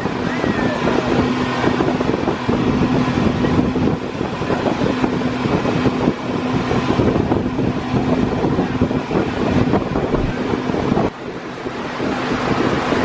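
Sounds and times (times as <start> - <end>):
engine droning: 0.0 - 13.0
wind buffeting microphone: 0.0 - 13.0.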